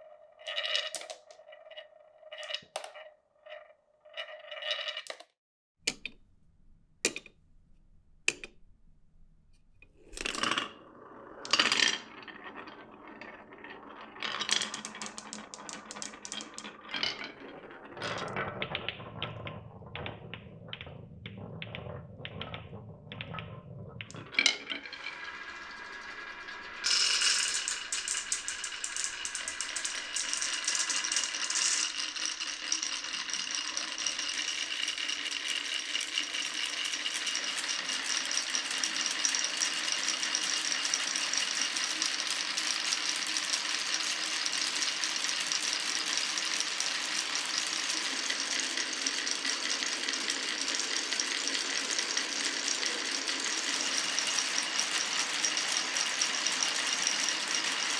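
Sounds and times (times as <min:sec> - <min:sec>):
marbles rattling on a marble run: 0:00.0 - 0:03.6, 0:04.2 - 0:05.3, 0:10.0 - 0:57.9.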